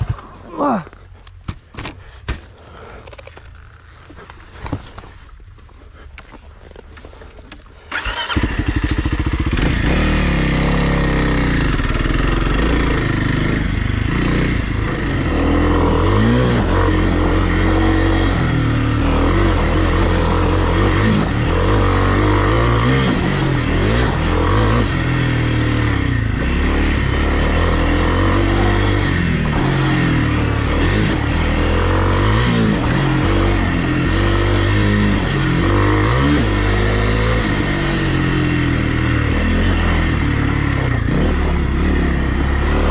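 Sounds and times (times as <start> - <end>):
dirt bike engine revving: 7.9 - 42.9.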